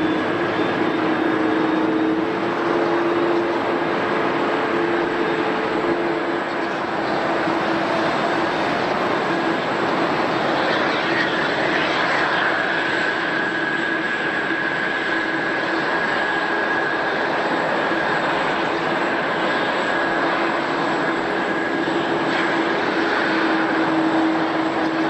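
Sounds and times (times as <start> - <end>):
high engine whine: 0.0 - 25.0
jet engines running: 0.0 - 25.0.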